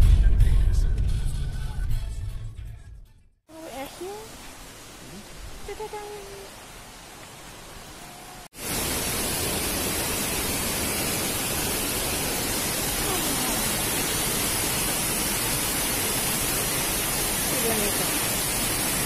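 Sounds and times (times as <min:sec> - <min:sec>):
small waterfall rushing: 0:03.5 - 0:19.0.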